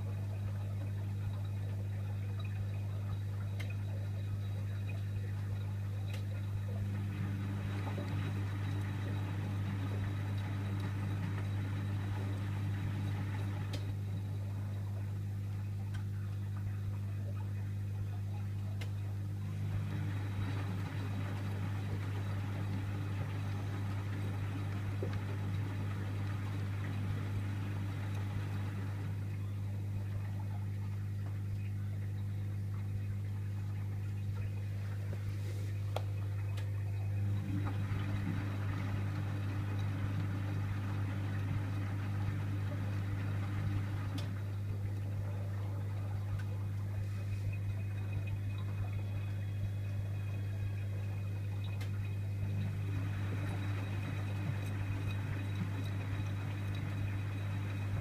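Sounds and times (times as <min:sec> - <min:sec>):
washing machine drum churning: 0:00.0 - 0:16.0, 0:18.5 - 0:58.0
steady low hum: 0:00.0 - 0:58.0.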